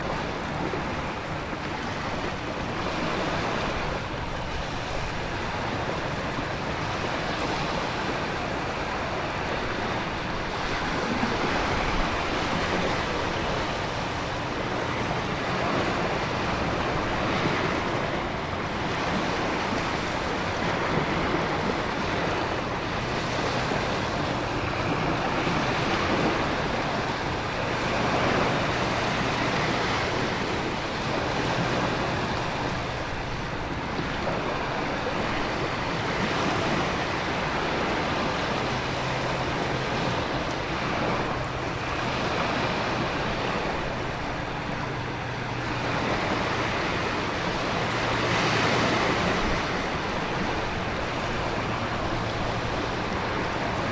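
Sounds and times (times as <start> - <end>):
ocean waves rushing: 0.0 - 53.9
wind: 0.0 - 53.9.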